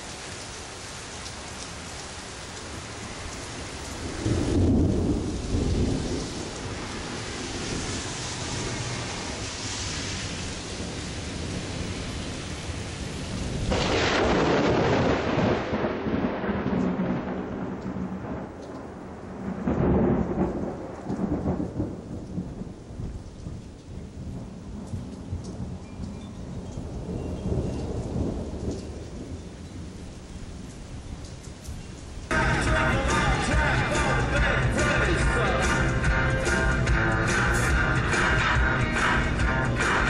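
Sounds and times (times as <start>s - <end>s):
steady rain: 0.0s - 40.0s
thunder rumbling: 2.8s - 25.9s, 26.6s - 30.0s, 32.3s - 40.0s.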